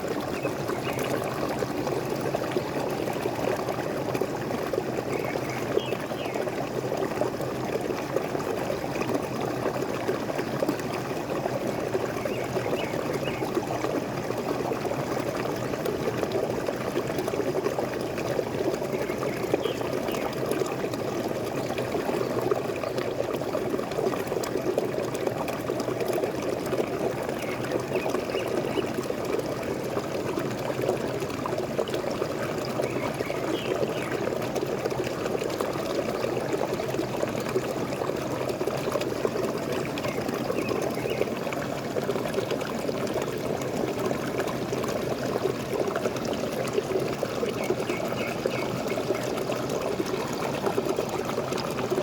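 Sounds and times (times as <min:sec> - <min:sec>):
small waterfall splashing: 0:00.0 - 0:52.0.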